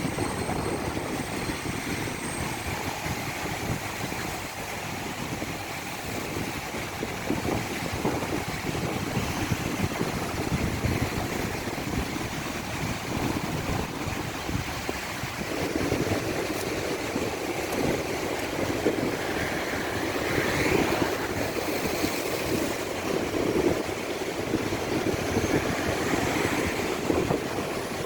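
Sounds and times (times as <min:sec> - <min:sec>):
rough sea surf washing: 0:00.0 - 0:28.0
wind buffeting microphone: 0:00.0 - 0:28.0.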